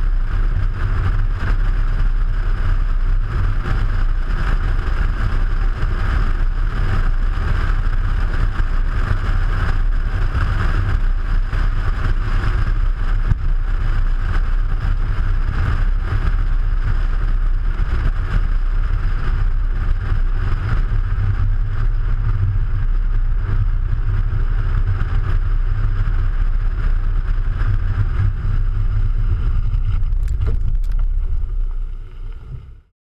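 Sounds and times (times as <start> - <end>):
road and wind noise rumbling: 0.0 - 32.9.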